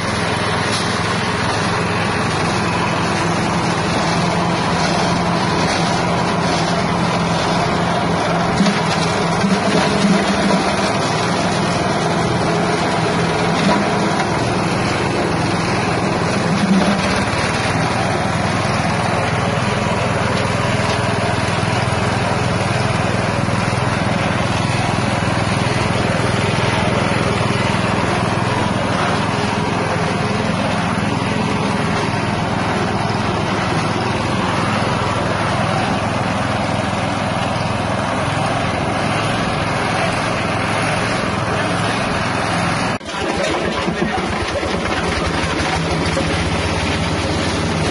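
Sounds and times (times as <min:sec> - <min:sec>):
small engine driving grinding mill: 0:00.0 - 0:47.9.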